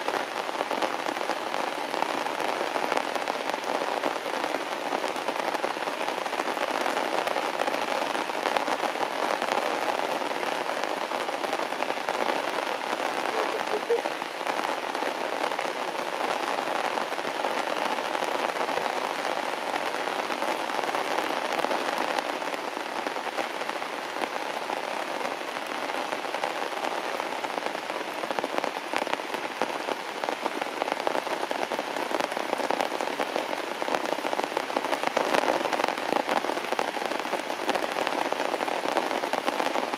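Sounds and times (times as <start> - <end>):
heavy rain on grass and leaves: 0.0 - 39.9.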